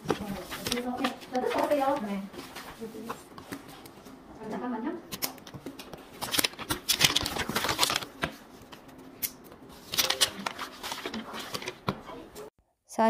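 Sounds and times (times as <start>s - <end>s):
paper rustling and crinkling: 0.0s - 4.2s, 5.1s - 12.5s.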